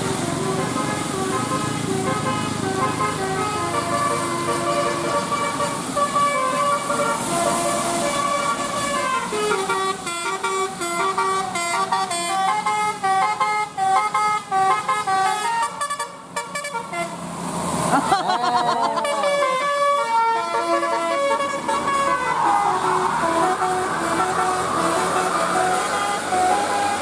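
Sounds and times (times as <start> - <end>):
musical bus horn: 0.0 - 17.2, 19.0 - 27.0.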